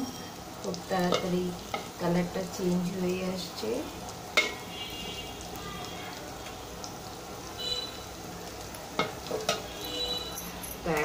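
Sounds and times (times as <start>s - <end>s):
shrimp and onions sizzling in oil: 0.0s - 11.0s.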